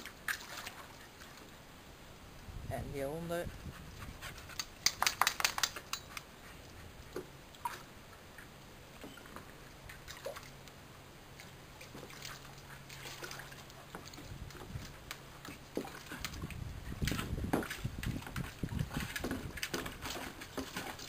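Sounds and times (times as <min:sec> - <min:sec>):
water sloshing in paddling pool: 0:00.0 - 0:01.6, 0:03.3 - 0:21.0.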